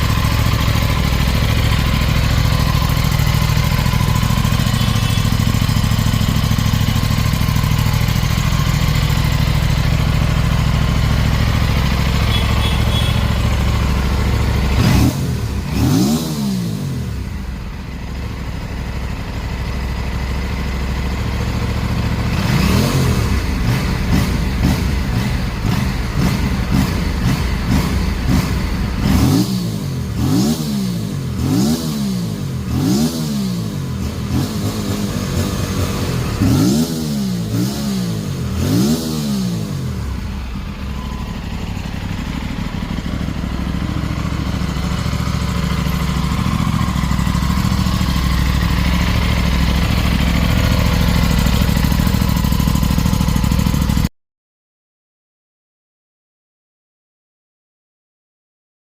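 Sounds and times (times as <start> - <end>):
motorcycle engine revving: 0.0 - 54.1.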